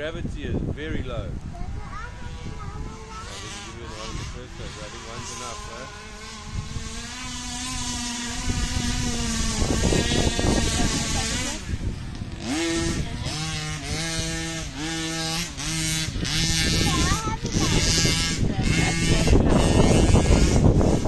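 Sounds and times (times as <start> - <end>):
scrabbling noise: 1.8 - 21.0
toy truck motor revving: 2.1 - 21.0.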